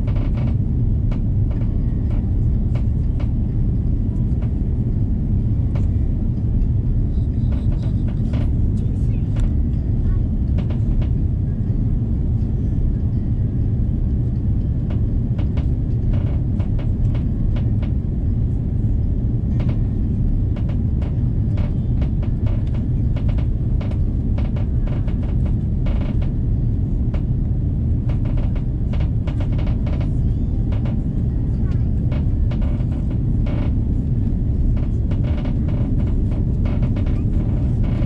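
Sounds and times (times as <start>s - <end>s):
airplane cabin low rumble: 0.0s - 38.0s
rattles and clicks of cabin fittings: 0.0s - 38.0s.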